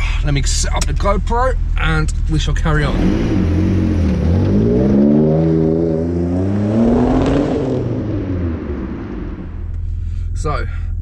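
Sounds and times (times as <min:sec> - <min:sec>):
car engine accelerating: 0:00.4 - 0:10.0.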